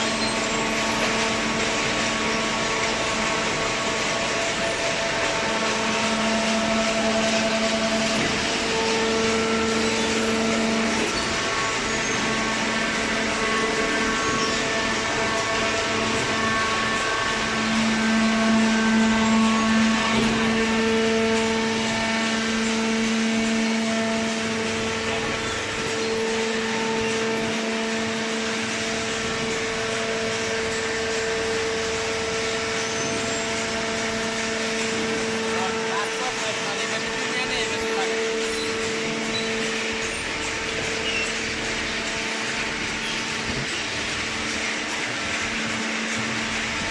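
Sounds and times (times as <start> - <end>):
hydraulic machine hum and whine: 0.0 - 46.9.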